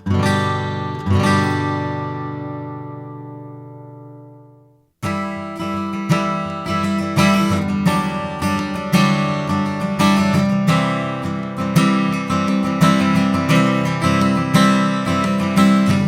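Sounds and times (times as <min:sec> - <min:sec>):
acoustic guitar chord ringing: 0:00.0 - 0:16.0
acoustic guitar strumming: 0:00.0 - 0:16.0.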